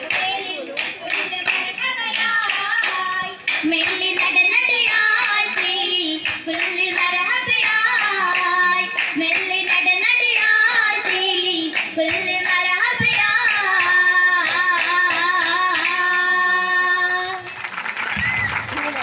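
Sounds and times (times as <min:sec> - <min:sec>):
hand claps: 0:00.0 - 0:16.2, 0:17.0 - 0:19.0
girls singing in chorus: 0:00.0 - 0:17.5.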